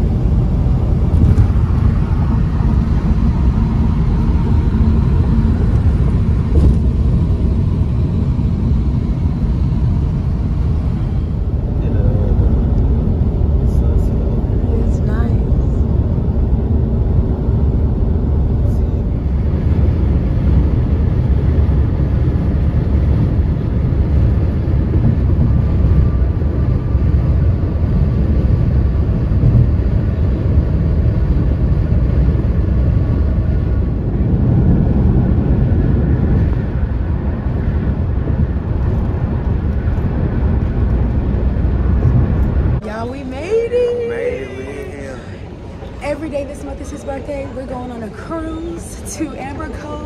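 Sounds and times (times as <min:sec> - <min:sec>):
moving vehicle low rumble: 0:00.0 - 0:50.0.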